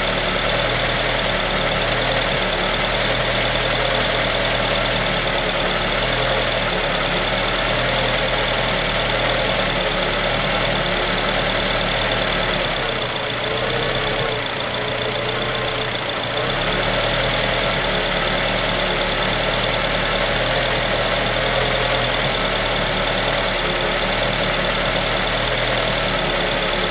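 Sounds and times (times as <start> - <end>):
car engine idling roughly: 0.0 - 26.9.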